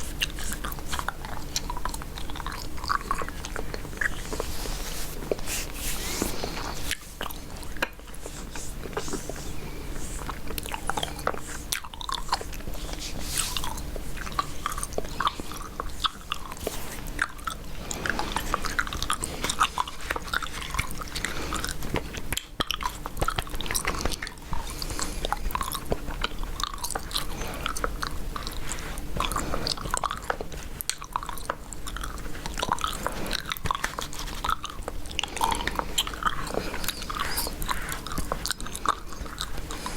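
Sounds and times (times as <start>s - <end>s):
gum chewing: 0.0s - 39.9s.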